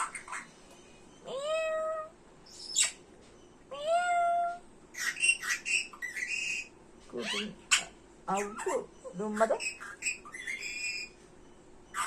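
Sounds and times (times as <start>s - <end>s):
parrot squawks and chirps: 0.0s - 0.6s, 1.2s - 3.0s, 3.8s - 11.2s.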